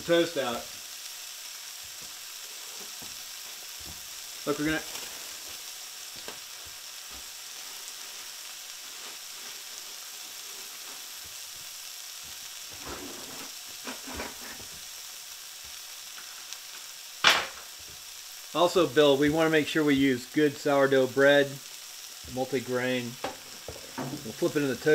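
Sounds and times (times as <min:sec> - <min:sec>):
food sizzling in a skillet: 0:00.0 - 0:24.9.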